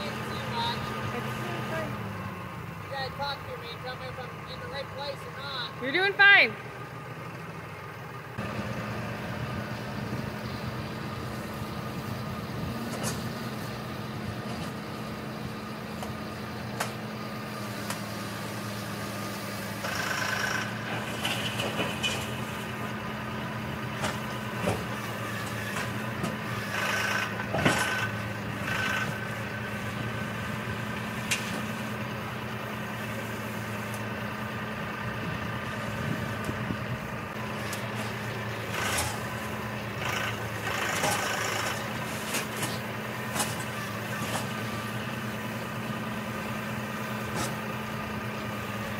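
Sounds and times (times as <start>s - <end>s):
tractor diesel engine running: 0.0s - 48.9s
loader bucket scraping stony ground: 8.4s - 48.9s.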